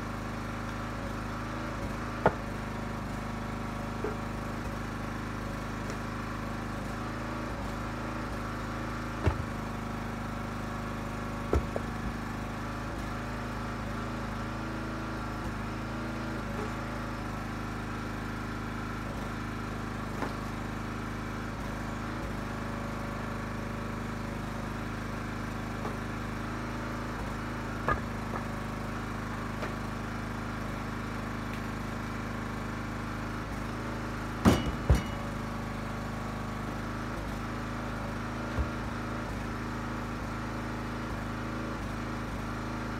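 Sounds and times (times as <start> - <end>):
log splitter engine running: 0.0 - 42.9.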